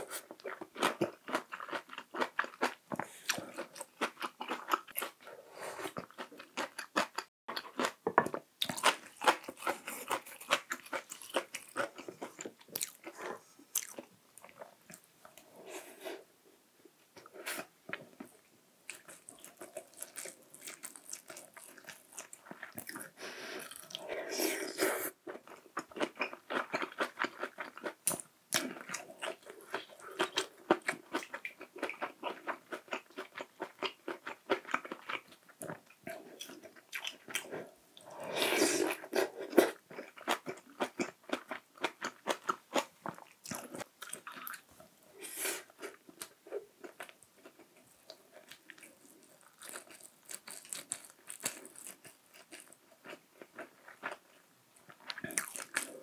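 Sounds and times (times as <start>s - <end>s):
person chewing food: 0.0s - 16.3s, 17.2s - 56.0s.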